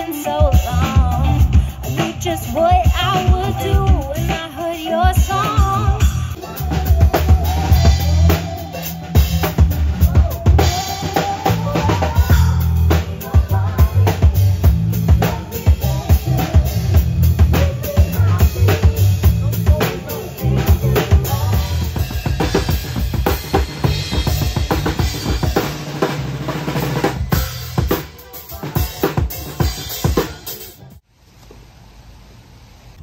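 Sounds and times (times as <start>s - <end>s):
drum kit beating: 0.0s - 31.0s
electric bass: 0.0s - 31.0s.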